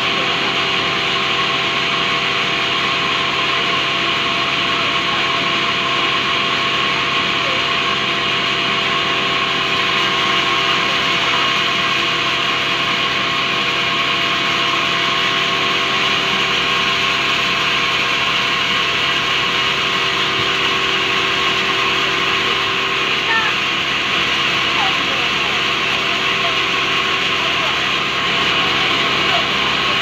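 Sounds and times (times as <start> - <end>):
band saw droning and whining: 0.0 - 30.0.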